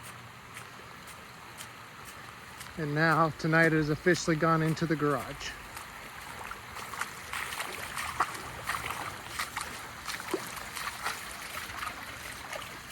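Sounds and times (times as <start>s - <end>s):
water rushing across ground: 0.0s - 12.9s
water splashing and gurgling: 1.1s - 12.9s.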